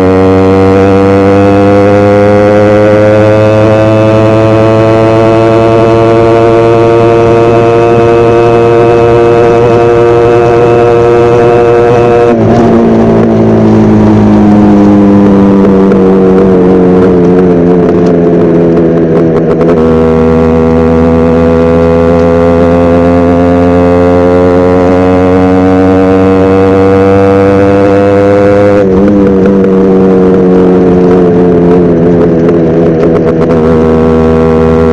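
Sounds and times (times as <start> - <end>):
two-stroke motorbike engine: 0.0 - 34.9.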